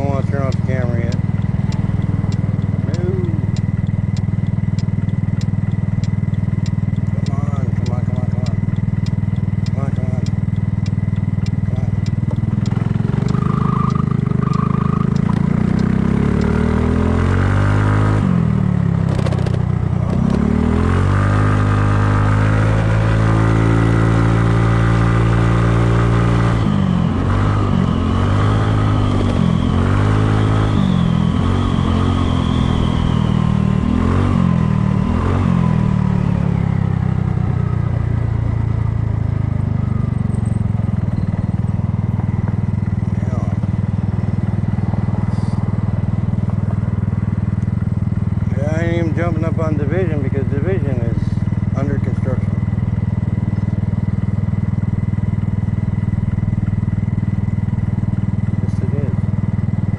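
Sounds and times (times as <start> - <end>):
scooter engine accelerating: 0.0 - 59.9.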